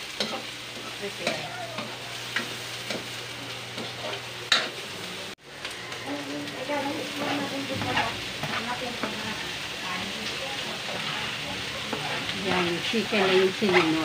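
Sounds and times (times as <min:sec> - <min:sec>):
spatula scraping a wok: 0:00.0 - 0:04.8, 0:06.8 - 0:14.0
garlic and onion sizzling in oil: 0:00.0 - 0:14.0.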